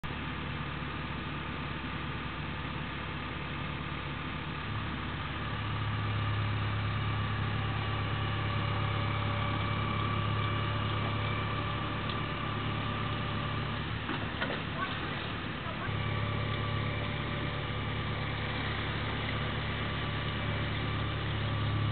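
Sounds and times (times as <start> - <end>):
heavy vehicle engine running: 0.0 - 21.9.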